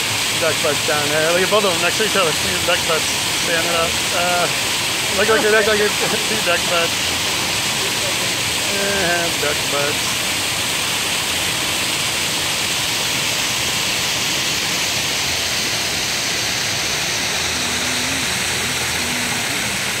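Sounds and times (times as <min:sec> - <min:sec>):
water falling into pond: 0:00.0 - 0:20.0.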